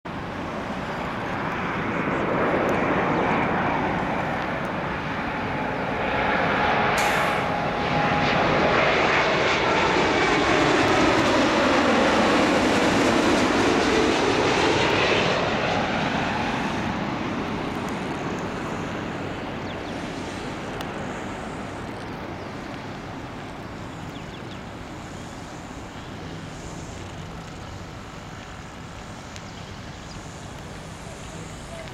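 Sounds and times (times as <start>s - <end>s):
airliner passing low: 0.1s - 31.9s.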